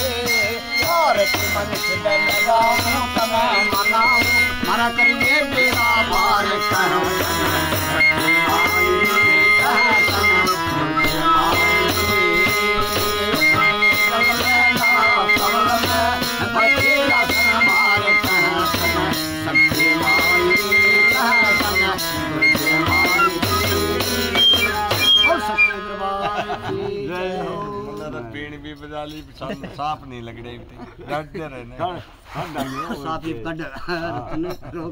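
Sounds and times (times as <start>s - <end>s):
man singing devotional song: 0.0s - 28.9s
harmonium: 0.0s - 29.1s.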